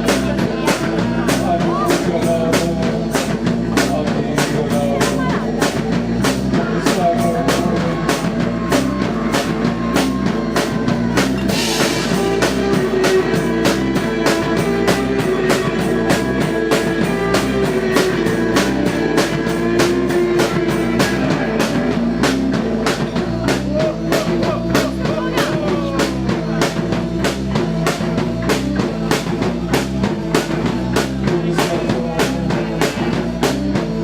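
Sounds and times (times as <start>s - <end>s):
drum kit beat: 0.0s - 34.0s
keyboard and guitar drone: 0.0s - 34.0s.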